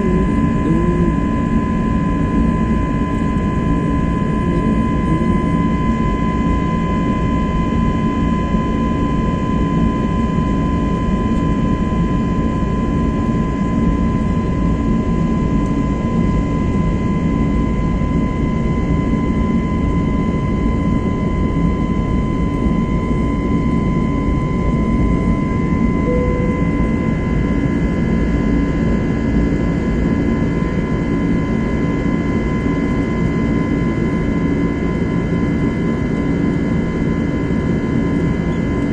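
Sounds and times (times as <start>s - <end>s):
constant engine whine: 0.0s - 38.9s.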